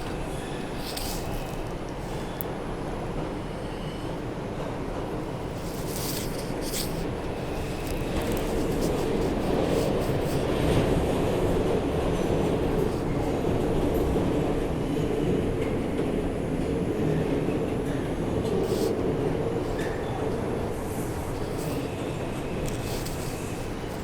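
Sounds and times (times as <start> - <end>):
subway car wheels rumbling: 0.0 - 24.0.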